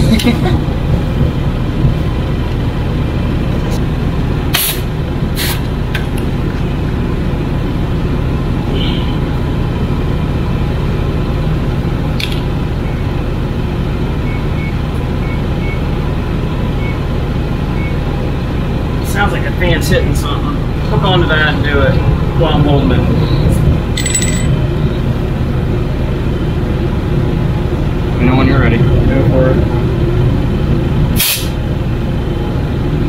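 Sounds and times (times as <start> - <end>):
refrigeration unit fan running: 0.0 - 33.0.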